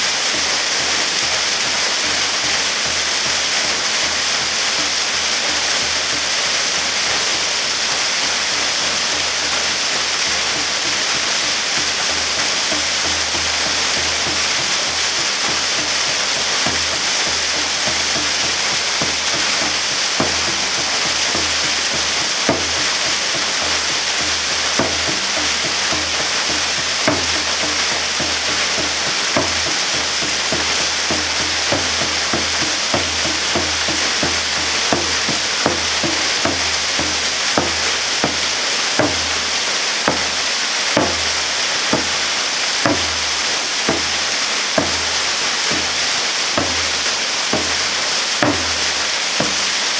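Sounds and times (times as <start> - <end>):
water splashes: 0.0 - 49.9
waterfall pouring: 0.0 - 49.9.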